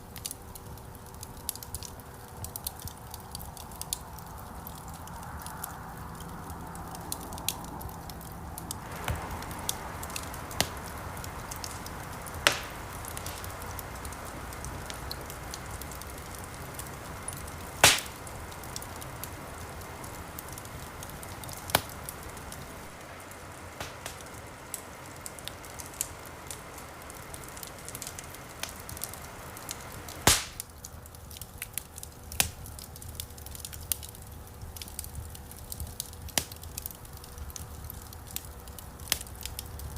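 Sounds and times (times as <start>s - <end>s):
campfire crackling: 0.0s - 39.9s
low hiss of flame: 0.0s - 39.9s
sharp fire pops: 0.1s - 39.9s.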